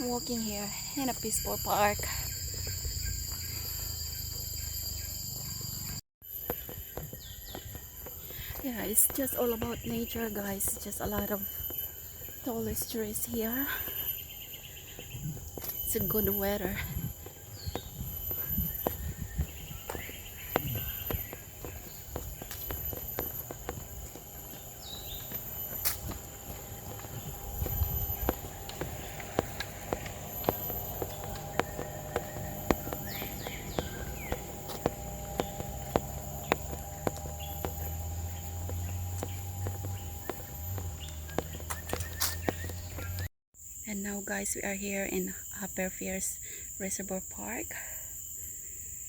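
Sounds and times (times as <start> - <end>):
insects droning: 0.0 - 49.0
footsteps walking: 1.2 - 43.3.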